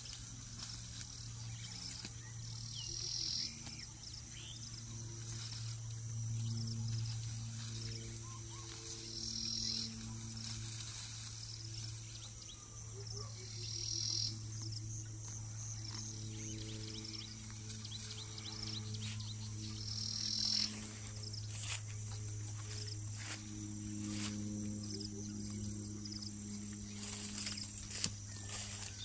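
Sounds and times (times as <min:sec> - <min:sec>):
crickets trilling: 0:00.0 - 0:29.0
steady low hum: 0:00.0 - 0:29.0.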